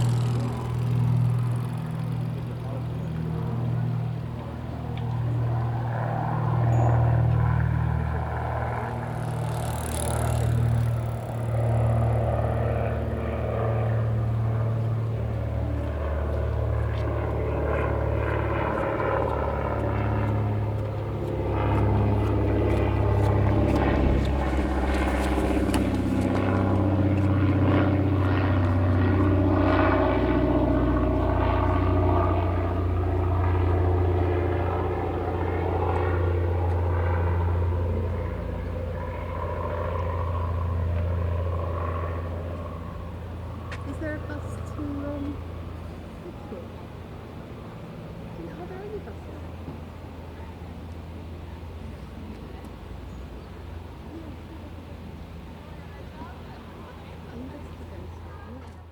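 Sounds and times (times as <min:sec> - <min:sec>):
low traffic engine rumble: 0:00.0 - 0:58.9.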